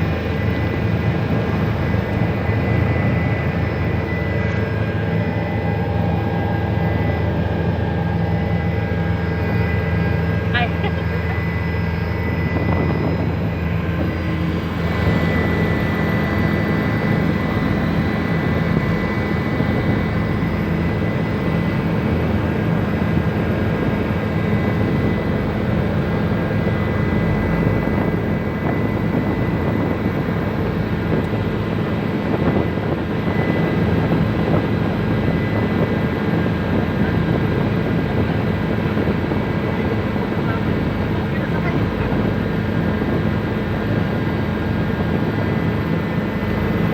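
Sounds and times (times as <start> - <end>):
helicopter engine and rotor: 0.0 - 46.9
thin high whine: 0.0 - 46.9.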